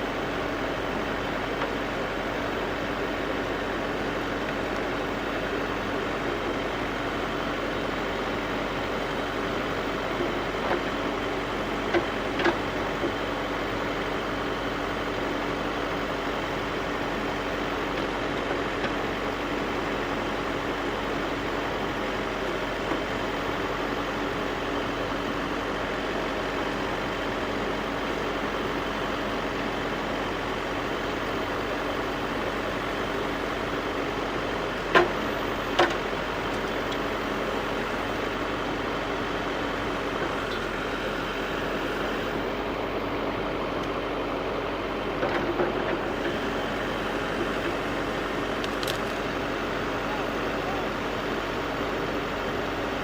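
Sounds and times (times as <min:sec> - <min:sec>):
backhoe engine running: 0:00.0 - 0:53.0.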